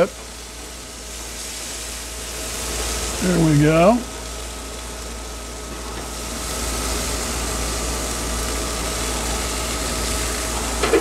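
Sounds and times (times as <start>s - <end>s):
chicken wings sizzling on grill: 0.0s - 11.0s.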